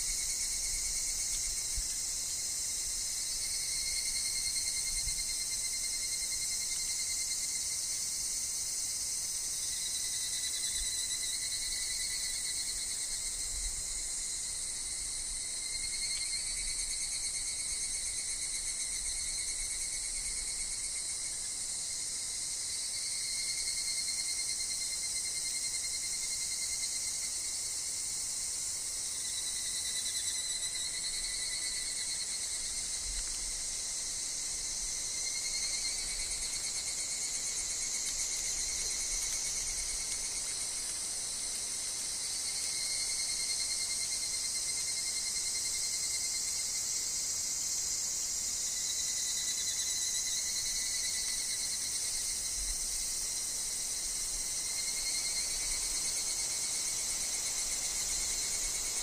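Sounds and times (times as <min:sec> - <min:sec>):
cicadas and insects chorus: 0:00.0 - 0:59.0.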